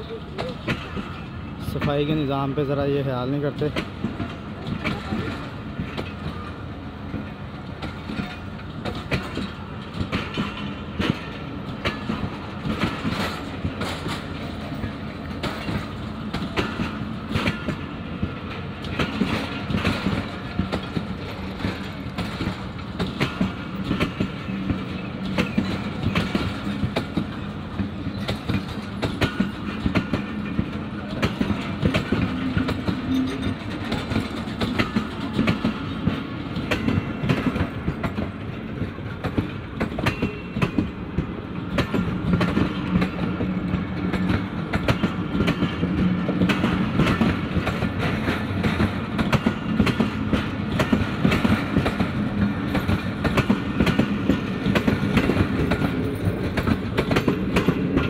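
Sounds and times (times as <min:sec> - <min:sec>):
low train rumble: 0:00.0 - 0:58.0
train wheels clacking on rail joints: 0:00.0 - 0:58.0.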